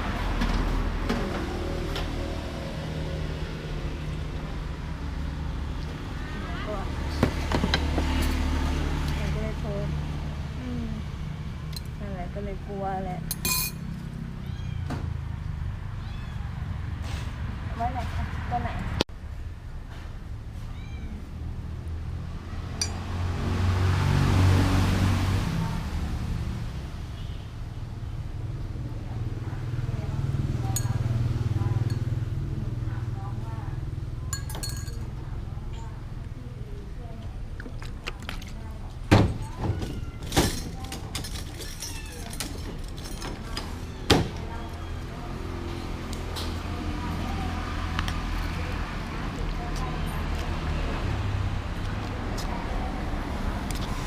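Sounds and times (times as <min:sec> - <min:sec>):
road vehicle passing by: 0:00.0 - 0:20.6, 0:21.2 - 0:37.5, 0:42.7 - 0:54.0.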